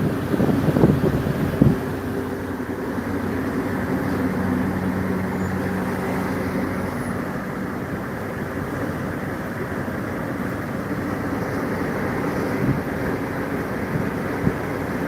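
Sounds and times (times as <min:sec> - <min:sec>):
car engine: 0:00.0 - 0:15.0
road noise: 0:00.0 - 0:15.0.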